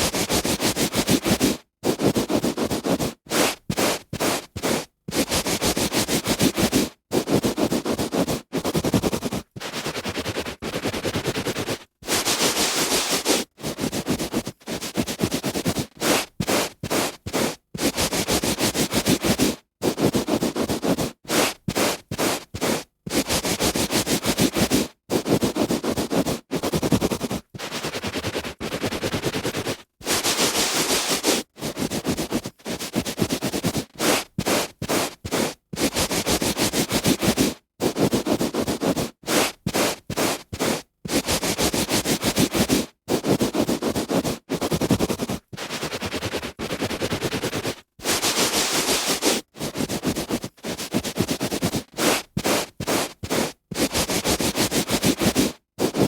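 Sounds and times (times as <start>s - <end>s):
hand rubbing on carpet: 0.0s - 56.0s.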